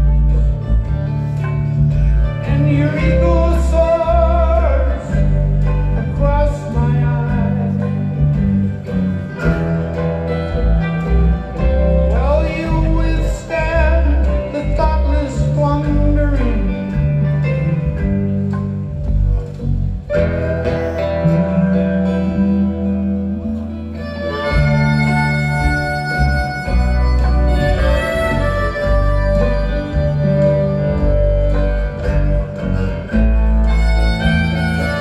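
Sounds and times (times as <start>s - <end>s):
live band music: 0.0s - 35.0s.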